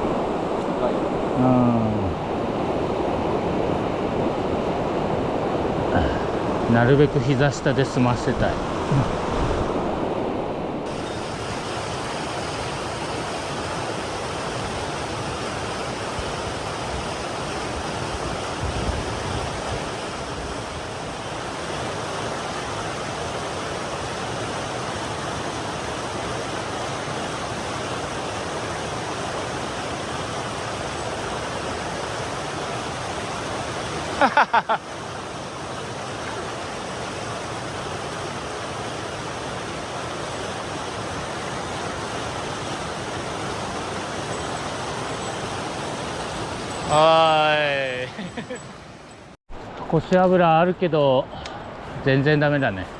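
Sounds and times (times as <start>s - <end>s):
stream rushing: 0.0s - 49.7s.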